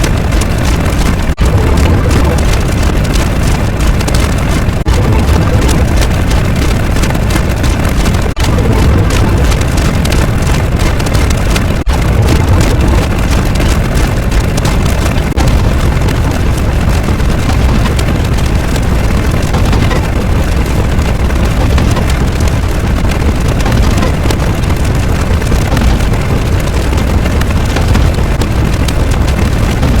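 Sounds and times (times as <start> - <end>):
loud steady rumbling: 0.0 - 30.0.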